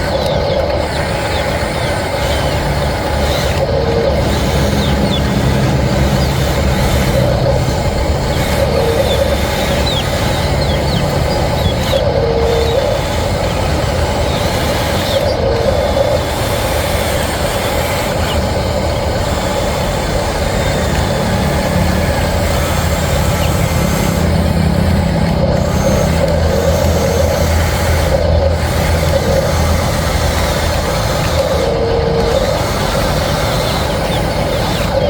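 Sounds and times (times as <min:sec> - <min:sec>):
toy vehicle motor humming: 0:00.0 - 0:35.0.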